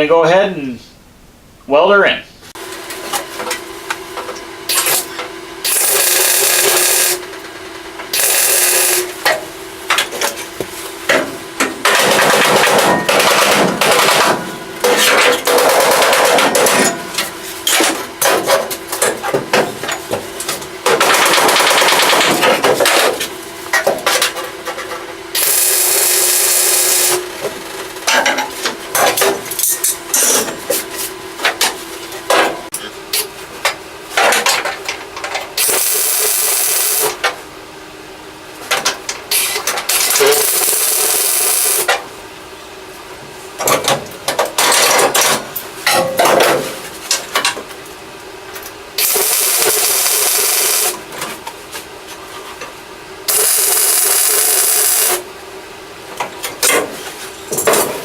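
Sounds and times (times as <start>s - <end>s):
steady hum: 0.0s - 53.3s.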